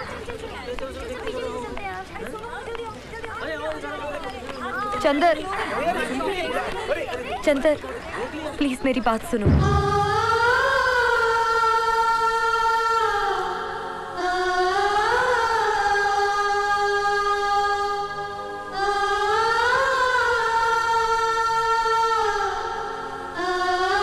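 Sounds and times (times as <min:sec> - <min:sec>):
wordless voices holding long notes: 0:00.0 - 0:24.0.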